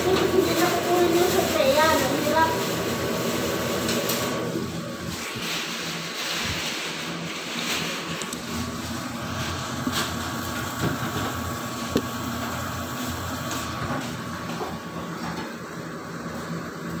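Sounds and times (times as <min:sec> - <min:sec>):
kitchen fan whirring: 0:00.0 - 0:17.0.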